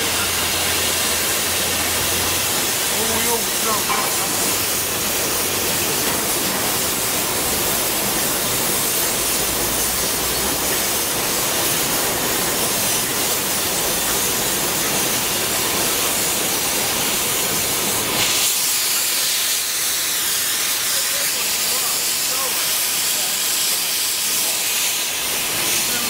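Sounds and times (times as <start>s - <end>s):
cutting torch hissing: 0.0s - 26.0s.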